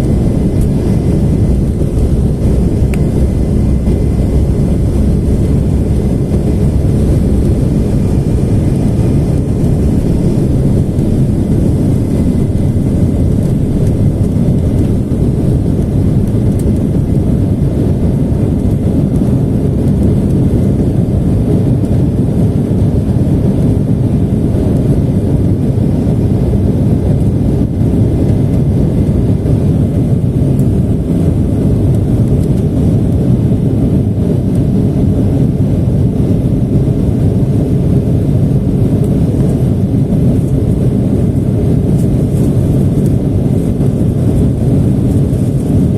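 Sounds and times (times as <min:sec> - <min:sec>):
jet engines rumbling in cabin: 0:00.0 - 0:45.9.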